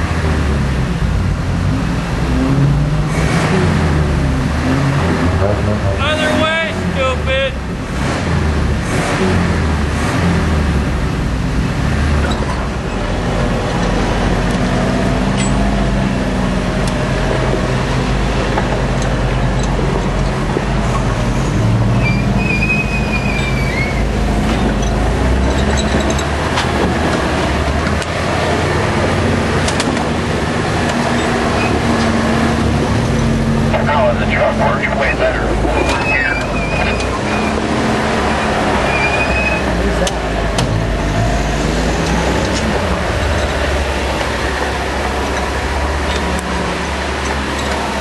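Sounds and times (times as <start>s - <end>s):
truck engines revving: 0.0s - 48.0s.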